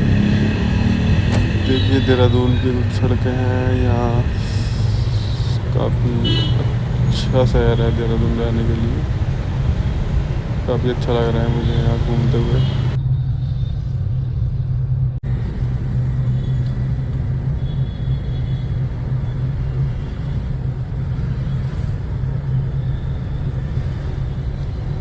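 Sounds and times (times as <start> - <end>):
road rumble: 0.0 - 13.0, 15.0 - 25.0
vehicle engine hum: 0.0 - 25.0.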